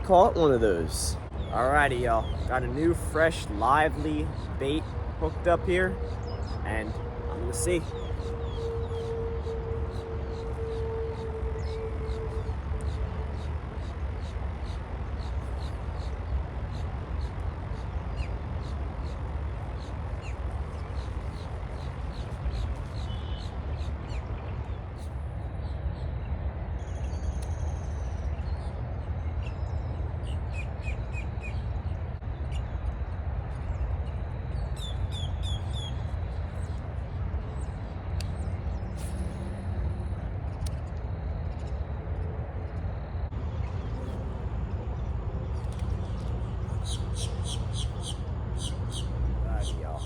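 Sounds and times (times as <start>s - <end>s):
birds chirping: 0.0s - 39.4s, 40.4s - 50.0s.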